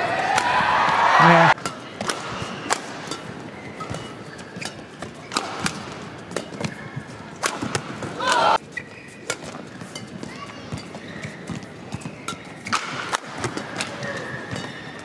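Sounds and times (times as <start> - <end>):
racket striking shuttlecock: 1.6 - 6.8, 7.4 - 8.6, 9.2 - 15.0
shoes squeaking on court: 1.8 - 15.0.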